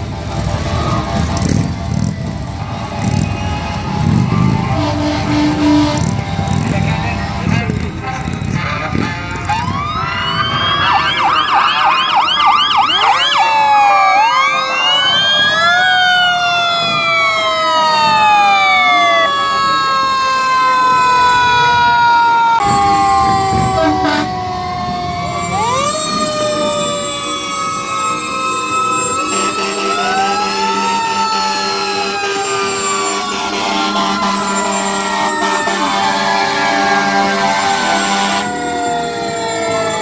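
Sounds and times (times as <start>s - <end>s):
emergency vehicle sirens: 0.0s - 40.0s.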